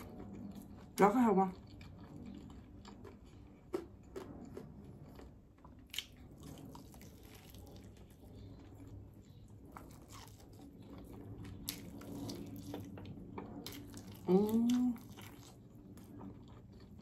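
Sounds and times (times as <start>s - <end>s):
chewing wet mouth sounds: 0.0s - 17.0s
faint low hum: 0.0s - 17.0s.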